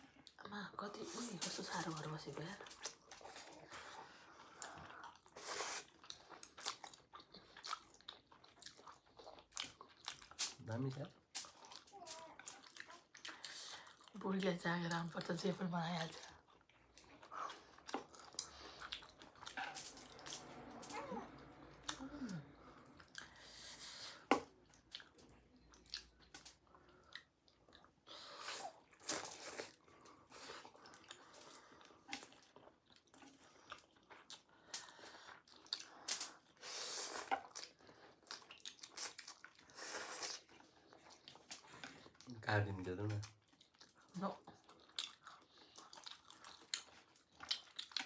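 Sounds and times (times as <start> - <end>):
person chewing with wet smacks: 0.0 - 0.4, 1.4 - 48.0.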